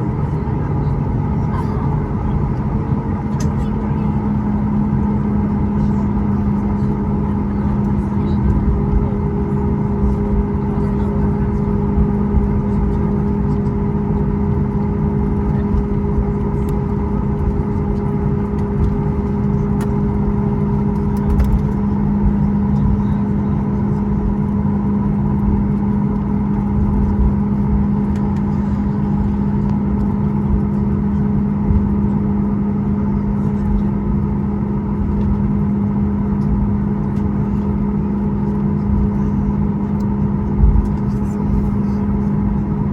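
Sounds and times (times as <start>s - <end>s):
jet engine cabin drone: 0.0s - 42.9s.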